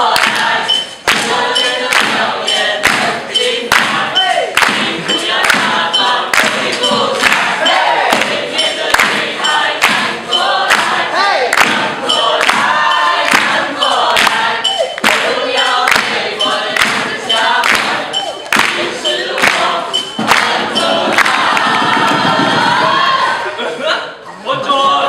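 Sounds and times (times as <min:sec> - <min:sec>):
voices singing together: 0:00.0 - 0:25.0
percussive hits on objects: 0:00.1 - 0:11.0, 0:11.6 - 0:12.7, 0:13.3 - 0:13.6, 0:14.2 - 0:15.3, 0:15.9 - 0:23.0.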